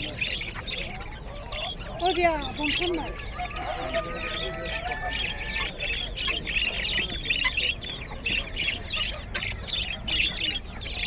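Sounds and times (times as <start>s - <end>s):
budgerigars chirping and warbling: 0.0s - 11.0s.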